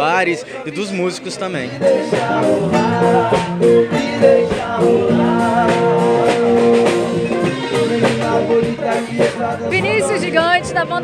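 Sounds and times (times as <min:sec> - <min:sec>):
guitar: 0:00.0 - 0:11.0
steady beat: 0:01.8 - 0:11.0.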